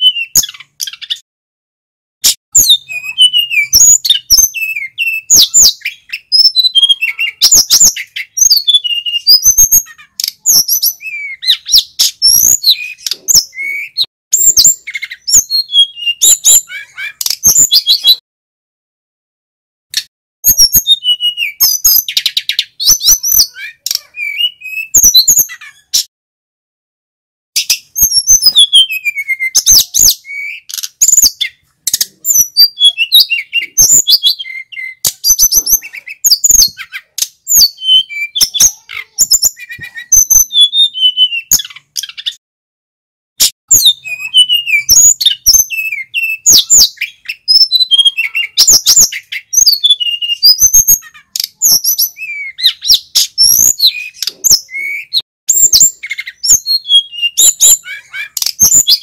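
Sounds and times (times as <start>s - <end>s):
bird singing whistles and trills: 0.0s - 1.2s, 2.3s - 18.2s, 20.4s - 26.1s, 27.6s - 42.4s, 43.4s - 59.0s.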